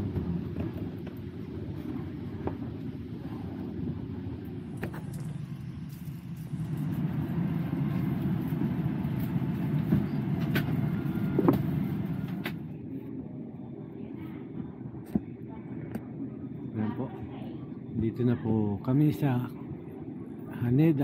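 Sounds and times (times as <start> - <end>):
cabin ventilation rumble: 0.0 - 21.0.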